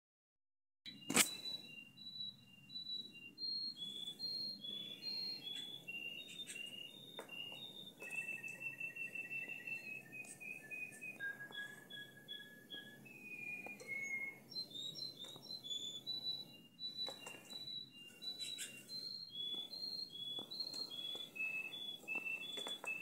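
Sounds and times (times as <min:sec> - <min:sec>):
canary singing: 0:00.9 - 0:23.0.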